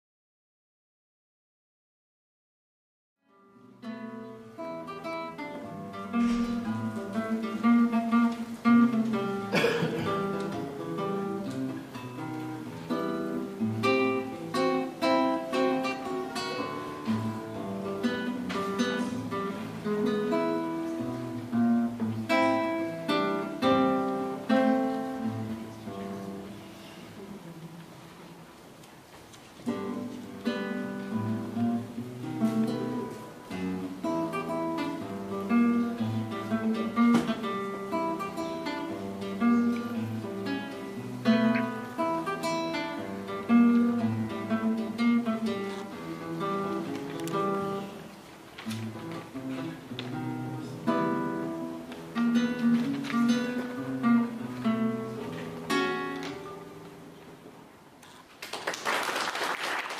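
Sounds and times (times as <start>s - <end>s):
fingerpicked classical guitar: 3.3s - 58.3s.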